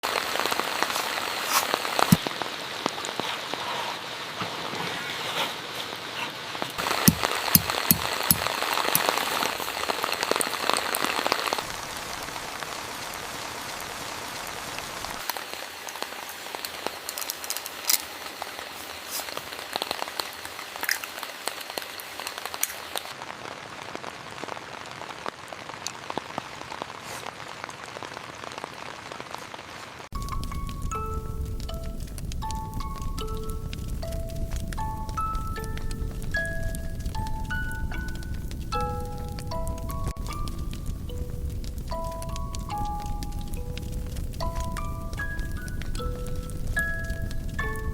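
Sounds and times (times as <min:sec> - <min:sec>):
raindrops striking a surface: 0:00.0 - 0:04.8, 0:06.6 - 0:47.9
heavy rain falling: 0:00.0 - 0:47.9.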